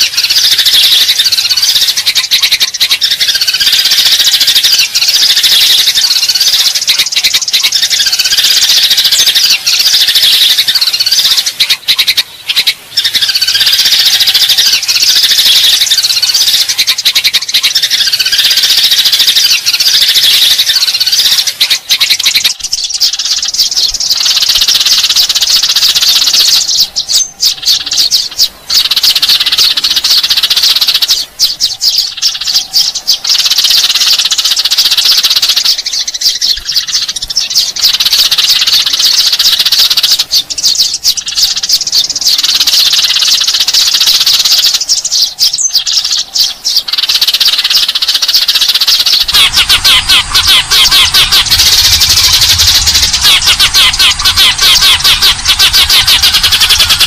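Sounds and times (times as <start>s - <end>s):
sparrows chirping and chattering: 0.0s - 57.0s.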